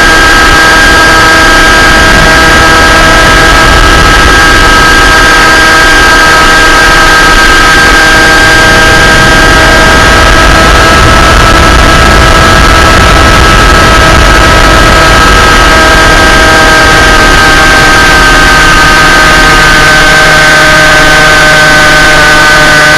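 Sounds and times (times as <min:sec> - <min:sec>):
aircraft motor droning: 0:00.0 - 0:22.9
heavy wind noise: 0:00.0 - 0:22.9.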